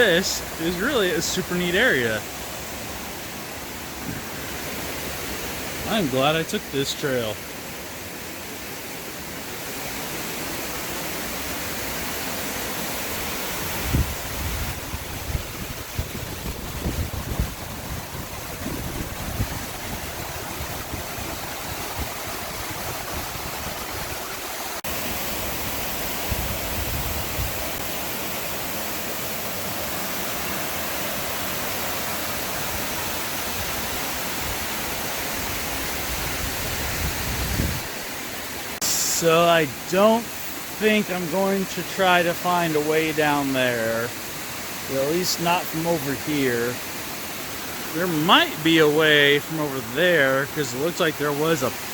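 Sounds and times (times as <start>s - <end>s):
waterfall and rushing creek: 0.0s - 51.9s.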